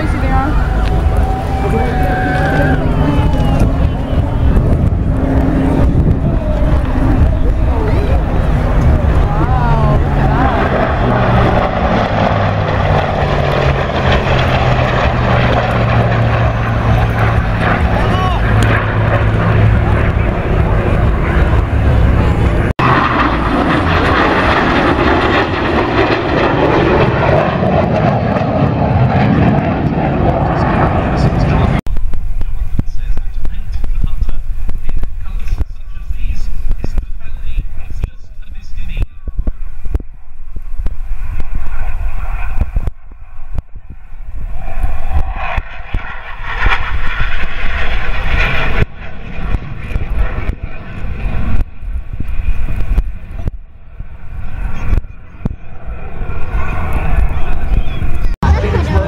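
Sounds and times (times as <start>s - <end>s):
jet aircraft passing: 0.0s - 59.0s
wind rumble on microphone: 0.0s - 59.0s.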